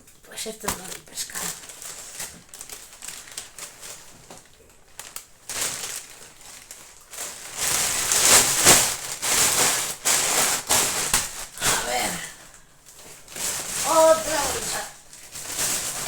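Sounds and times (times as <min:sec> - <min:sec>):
plastic bags rustling and crinkling: 0:00.0 - 0:16.0.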